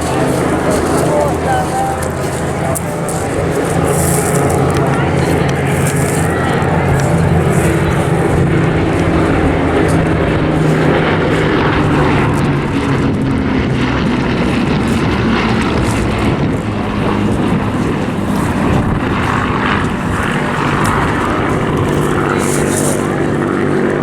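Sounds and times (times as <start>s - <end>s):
propeller aircraft flying past: 0.0s - 24.0s.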